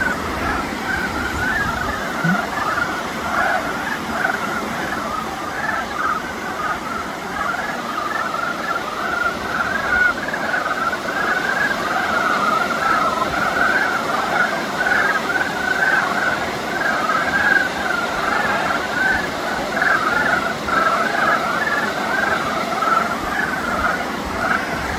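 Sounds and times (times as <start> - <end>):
chorus of frogs calling: 0.0 - 24.9.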